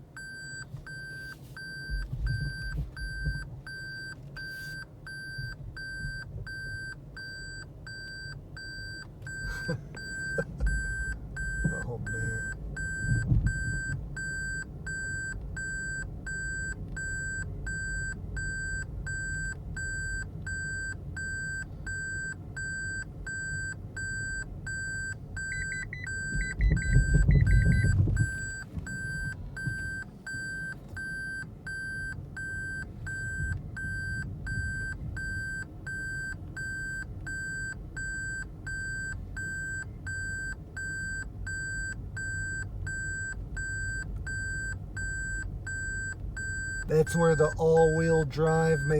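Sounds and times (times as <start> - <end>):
car engine rumble: 0.0 - 48.9
car warning chime beeping: 0.0 - 48.9.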